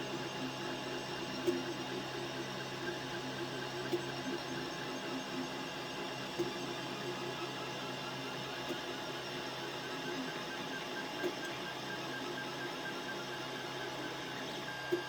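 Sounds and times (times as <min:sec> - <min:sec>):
printer mechanical hum: 0:00.0 - 0:15.0.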